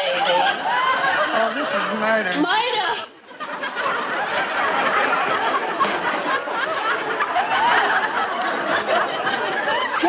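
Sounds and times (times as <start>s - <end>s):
audience laughter: 0.0s - 10.0s.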